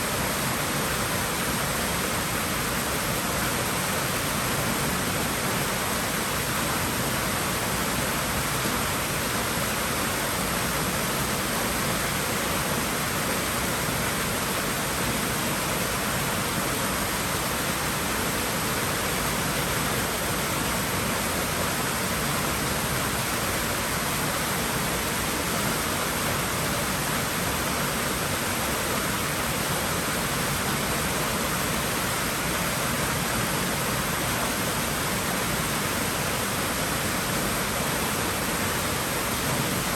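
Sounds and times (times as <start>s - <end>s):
pool water rushing: 0.0s - 39.9s.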